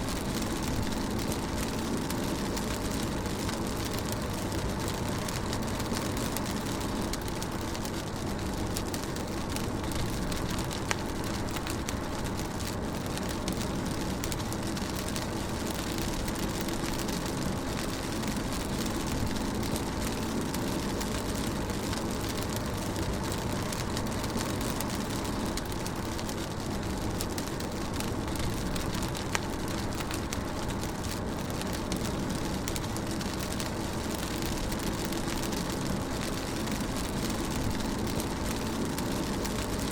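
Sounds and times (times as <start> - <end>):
rain hissing on car roof: 0.0 - 39.9
raindrops ticking: 0.0 - 39.9.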